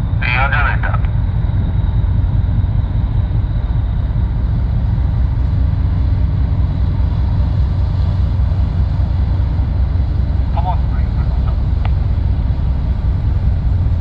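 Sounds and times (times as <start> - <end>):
ferry machinery low rumble: 0.0 - 14.0.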